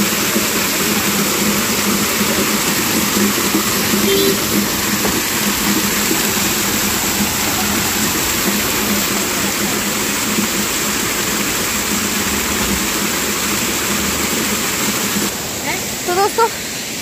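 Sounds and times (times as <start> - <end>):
water pouring into plastic can: 0.0 - 14.2
waterfall splashing onto rocks: 0.0 - 17.0.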